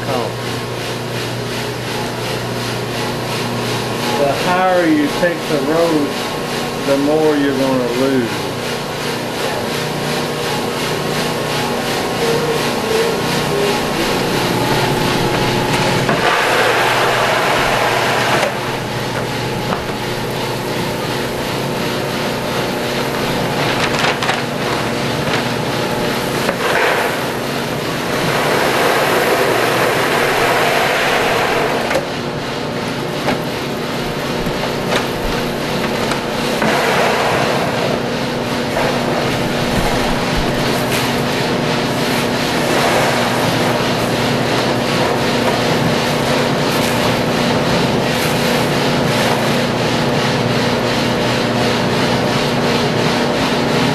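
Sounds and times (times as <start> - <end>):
cooling fan blowing: 0.0 - 53.9.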